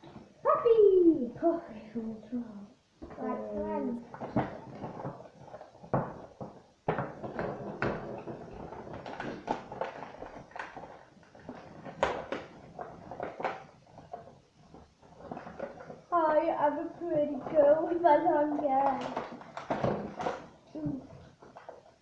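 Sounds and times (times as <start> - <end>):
plastic packaging crinkling: 4.0 - 22.0.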